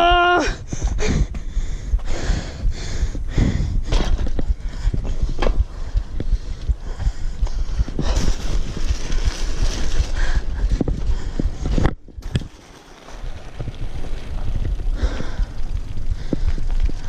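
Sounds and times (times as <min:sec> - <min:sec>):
bicycle rattling over rough ground: 0:00.0 - 0:17.0
wind buffeting microphone: 0:00.0 - 0:17.0.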